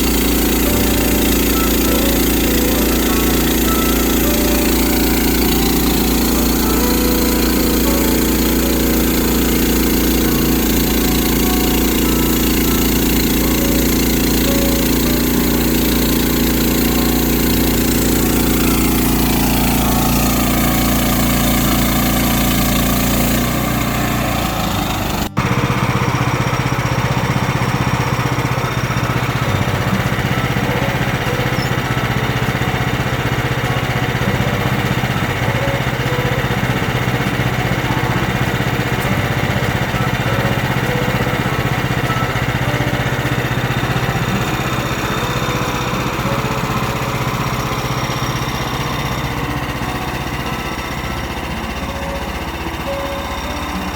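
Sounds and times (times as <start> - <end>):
engine running steadily: 0.0 - 53.9
rough-running engine: 0.0 - 53.9.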